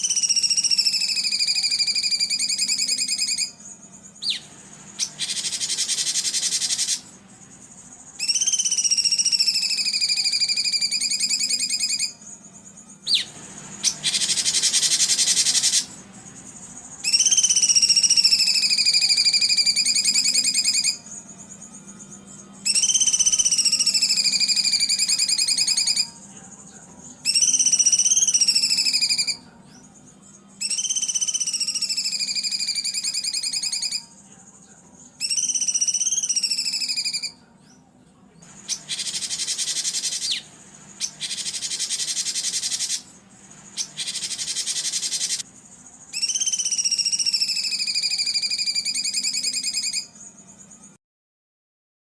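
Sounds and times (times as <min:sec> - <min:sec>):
faint steady hum: 0:00.0 - 0:51.0
songbird buzzy trills: 0:00.0 - 0:51.0.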